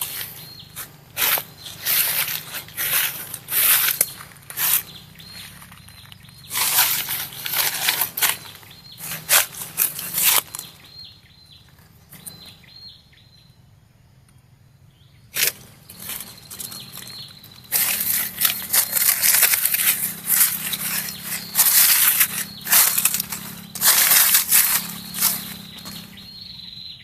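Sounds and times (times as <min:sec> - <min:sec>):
rustling and scraping: 0:00.0 - 0:10.9, 0:15.4 - 0:26.4.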